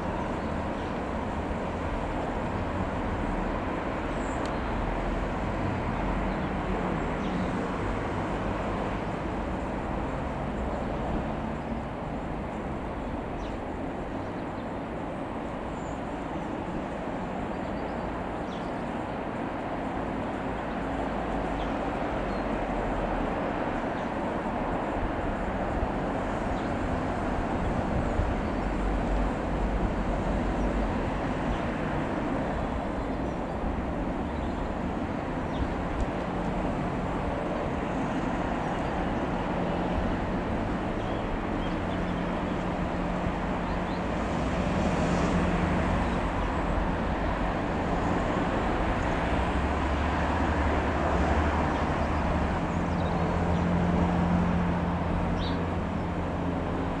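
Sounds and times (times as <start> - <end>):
outdoor noise: 0.0 - 57.0.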